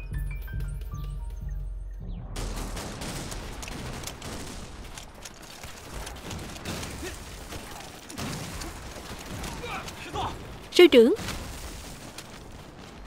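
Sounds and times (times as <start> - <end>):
dense gunfire: 2.4 - 13.0.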